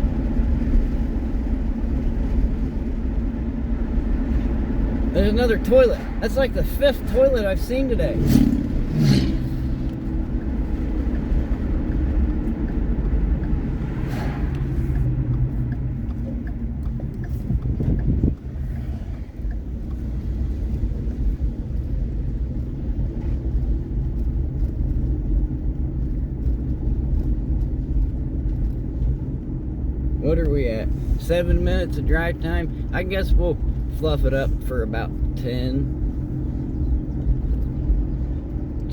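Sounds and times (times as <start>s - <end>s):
engine and road rumble: 0.0s - 38.9s.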